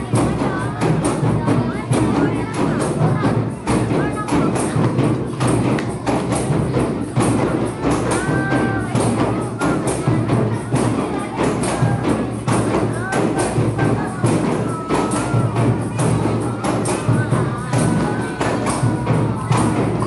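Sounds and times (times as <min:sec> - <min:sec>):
hand drums playing rhythm: 0:00.0 - 0:20.0
voices: 0:00.0 - 0:20.0.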